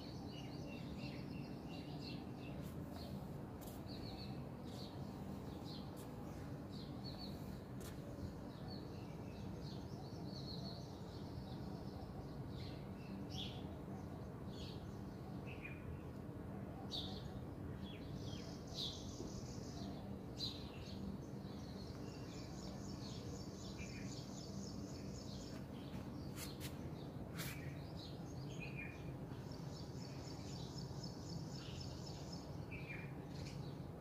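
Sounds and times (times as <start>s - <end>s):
small birds chirping: 0.0s - 16.0s, 16.9s - 34.0s.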